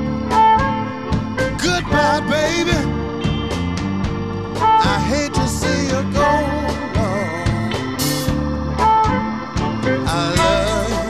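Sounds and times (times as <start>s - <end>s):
bending lead guitar line: 0.0s - 11.0s
electric blues band playing: 0.0s - 11.0s.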